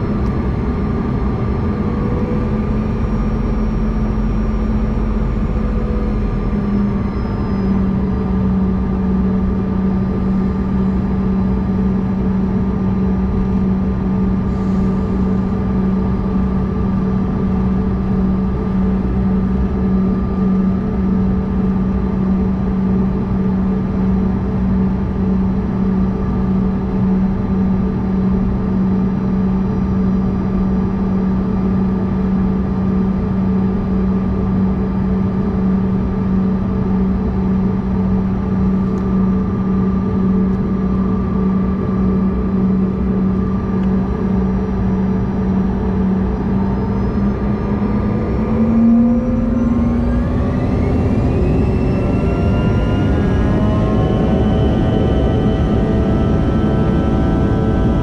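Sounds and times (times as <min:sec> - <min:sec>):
faint engine whine: 0:00.0 - 0:58.0
jet engines droning in cabin: 0:00.0 - 0:58.0.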